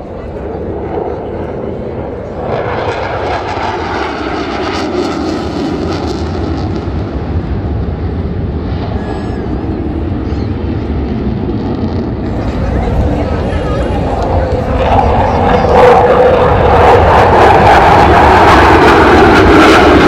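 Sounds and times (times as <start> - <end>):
jet flying overhead: 0.0 - 20.0.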